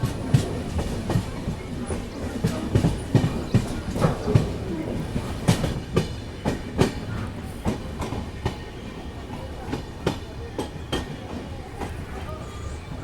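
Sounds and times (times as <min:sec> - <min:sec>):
train wheels clacking over joints: 0:00.0 - 0:12.2
train rumble: 0:00.0 - 0:13.0.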